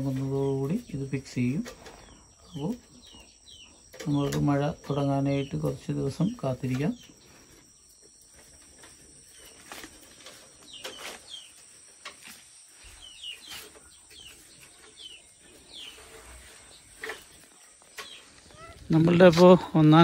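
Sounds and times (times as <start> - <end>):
faint bird chirps: 0.0 - 19.6.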